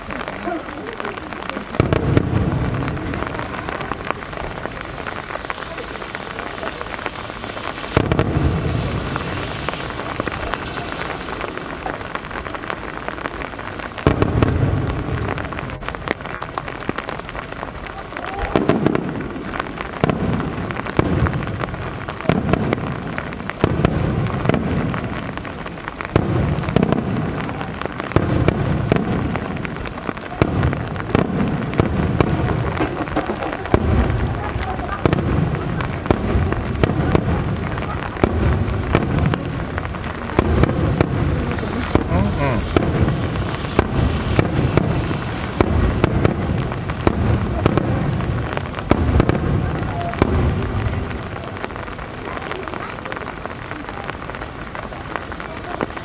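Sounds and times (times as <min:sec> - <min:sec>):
firework shells booming: 0:00.0 - 0:52.2
rain falling: 0:00.0 - 0:56.0.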